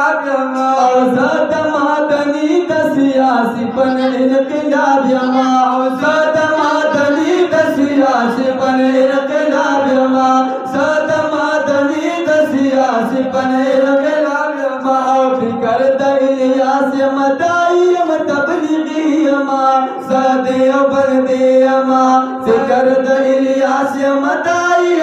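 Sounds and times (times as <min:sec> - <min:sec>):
two men singing: 0:00.0 - 0:25.0.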